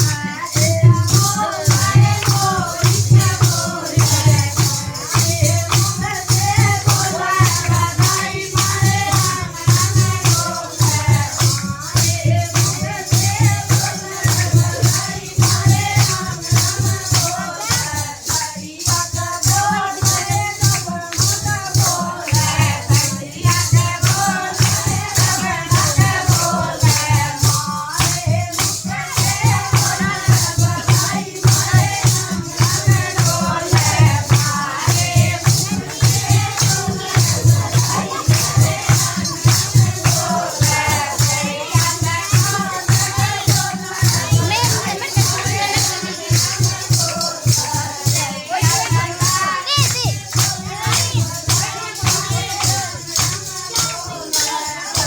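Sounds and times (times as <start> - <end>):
folk singing: 0.0 - 55.0
shaker-like rattling percussion: 0.0 - 55.0
steady drum beat: 0.0 - 55.0.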